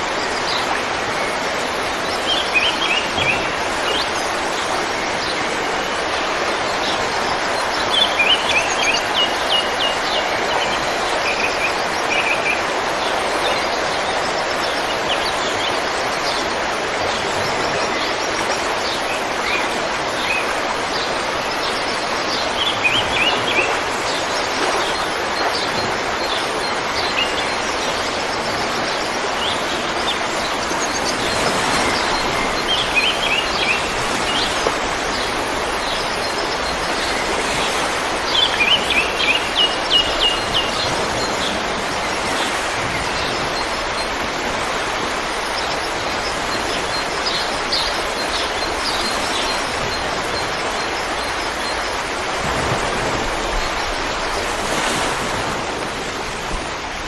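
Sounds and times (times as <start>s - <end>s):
river flowing: 0.0s - 57.0s
songbirds chirping: 0.0s - 57.0s.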